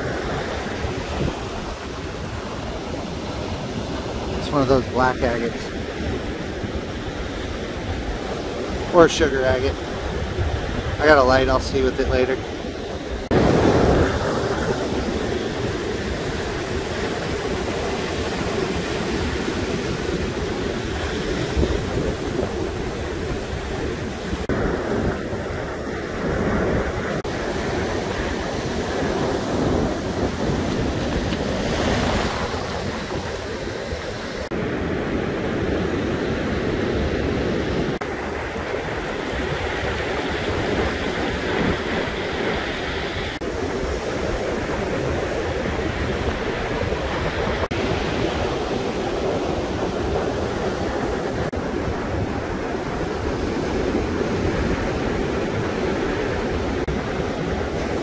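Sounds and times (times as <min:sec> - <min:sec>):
ocean surf on beach: 0:00.0 - 0:58.0
wind buffeting microphone: 0:00.0 - 0:58.0.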